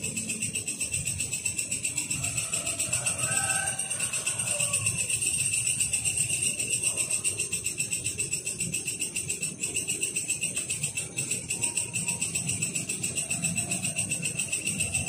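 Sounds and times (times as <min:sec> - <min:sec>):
distant music with jingling percussion: 0:00.0 - 0:15.0
night insects chirring: 0:00.0 - 0:15.0.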